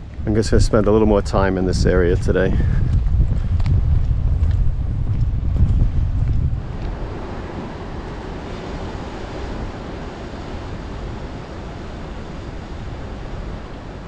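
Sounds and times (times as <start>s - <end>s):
ocean surf washing on shore: 0.0s - 14.0s.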